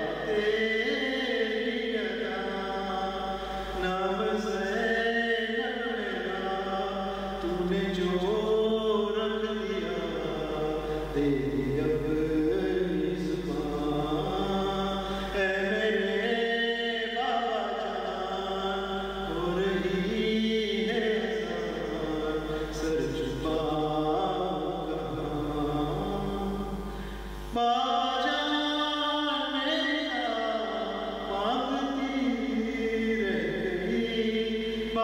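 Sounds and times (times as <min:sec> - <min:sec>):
man chanting melodically: 0:00.0 - 0:35.0.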